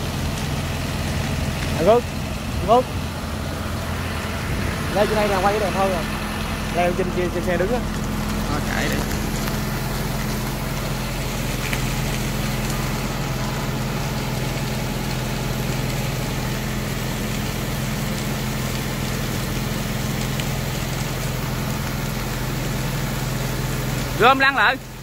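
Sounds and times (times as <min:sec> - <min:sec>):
fire engine motor running: 0:00.0 - 0:25.0.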